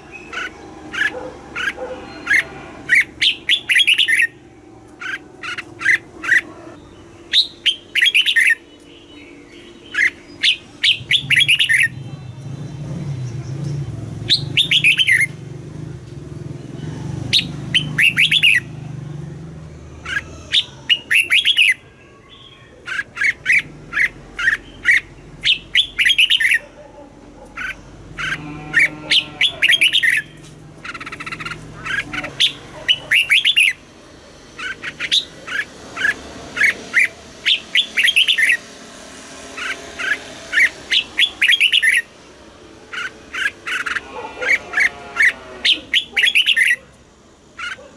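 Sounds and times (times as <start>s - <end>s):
bulbul singing: 0.0s - 46.9s.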